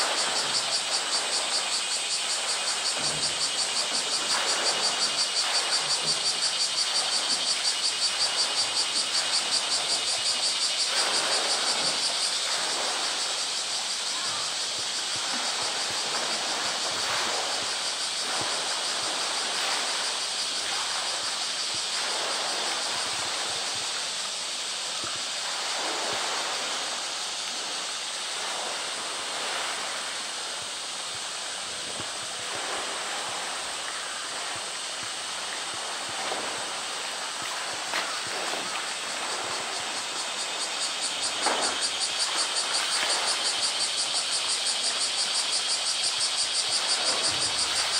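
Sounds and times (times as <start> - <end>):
water sloshing and splashing: 0.0 - 24.2, 25.1 - 45.6, 46.6 - 47.9
cicadas buzzing: 0.0 - 47.9.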